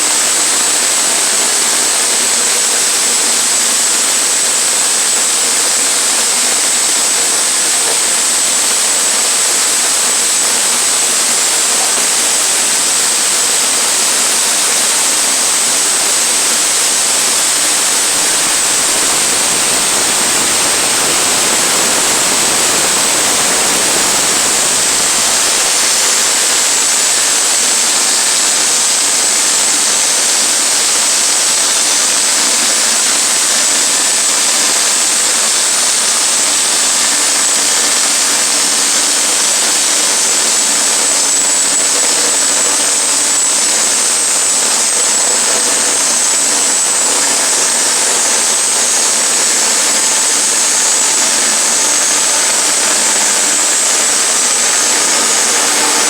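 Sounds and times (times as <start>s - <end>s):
sawmill cutting a log: 0.0s - 56.0s.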